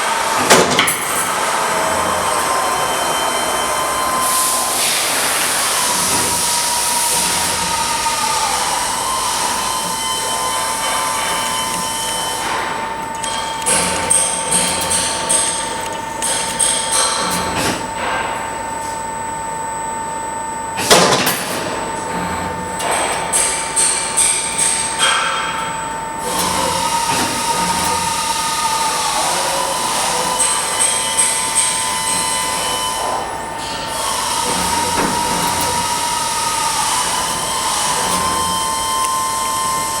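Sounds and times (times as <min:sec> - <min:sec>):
machine working noise: 0:00.0 - 0:40.0
motor whine: 0:00.0 - 0:40.0.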